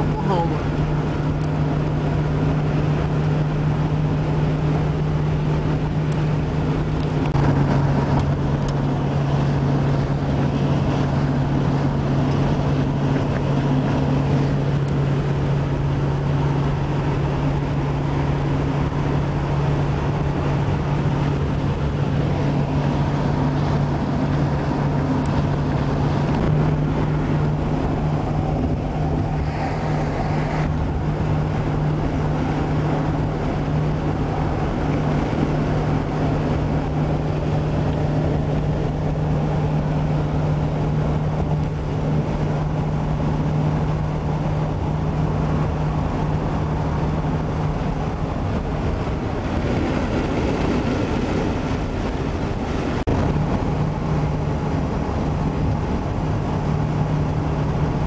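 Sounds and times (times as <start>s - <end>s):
vehicle cabin road noise: 0.0s - 58.0s.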